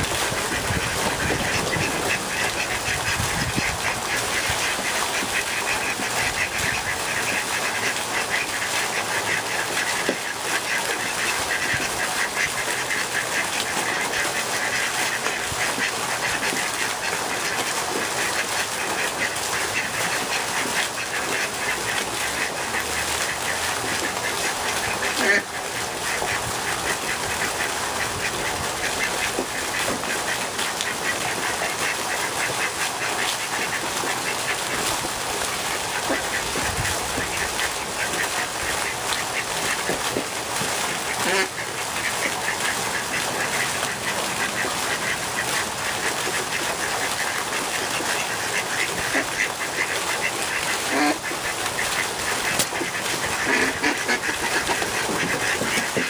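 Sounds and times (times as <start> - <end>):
ducks quacking: 0.0 - 56.0
fountain jet splashing: 0.0 - 56.0.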